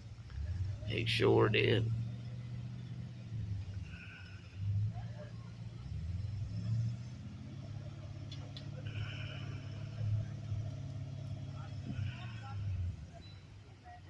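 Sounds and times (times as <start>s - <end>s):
truck engine running at low revs: 0.0s - 14.0s.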